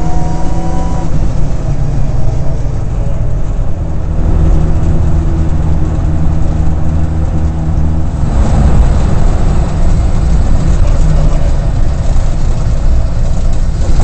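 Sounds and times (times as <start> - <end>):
rally car engine from cabin: 0.0 - 14.0.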